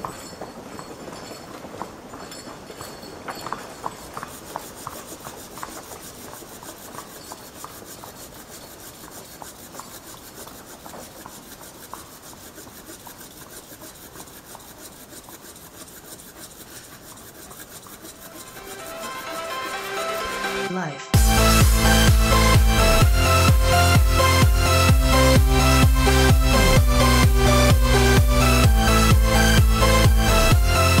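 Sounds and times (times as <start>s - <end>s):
hand saw cutting wood: 3.1s - 31.0s.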